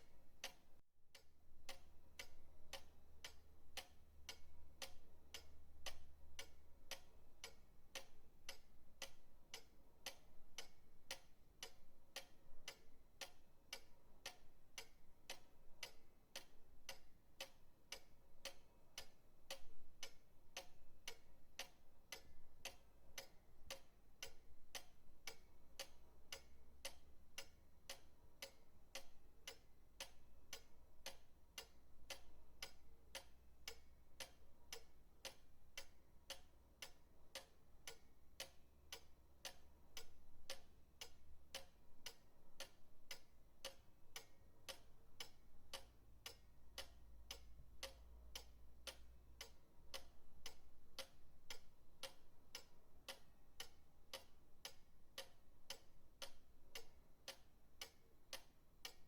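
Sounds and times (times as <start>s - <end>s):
pendulum clock ticking: 0.0s - 59.0s.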